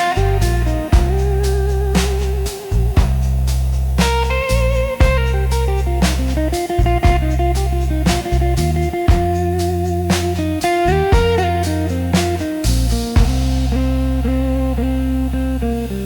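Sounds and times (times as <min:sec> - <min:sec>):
electric lead guitar: 0:00.0 - 0:03.2, 0:04.0 - 0:16.0
steady drum beat: 0:00.0 - 0:15.7
bass guitar: 0:00.0 - 0:16.0.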